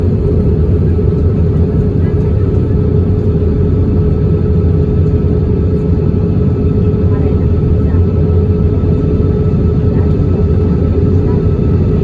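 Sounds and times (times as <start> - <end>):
airplane cabin engine rumble: 0.0 - 12.0
constant hum: 0.0 - 12.0.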